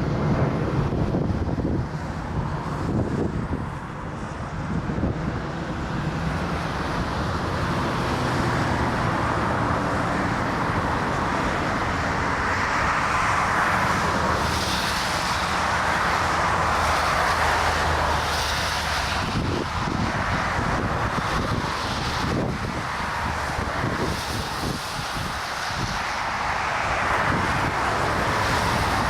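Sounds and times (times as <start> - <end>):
jet engines running: 0.0 - 29.0
wind on microphone: 0.0 - 29.0.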